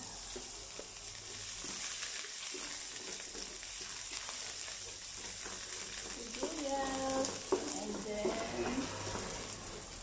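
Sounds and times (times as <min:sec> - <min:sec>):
onion sizzling in hot oil: 0:00.0 - 0:10.0
wooden spoon scraping a pan: 0:00.1 - 0:10.0.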